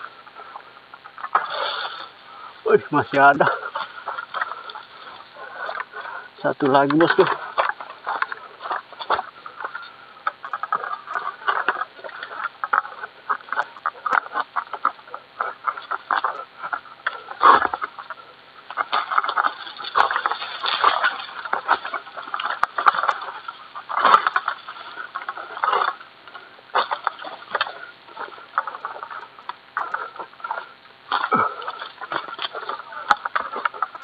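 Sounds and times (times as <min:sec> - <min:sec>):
dry fronds crackling and rustling: 0:00.0 - 0:34.0.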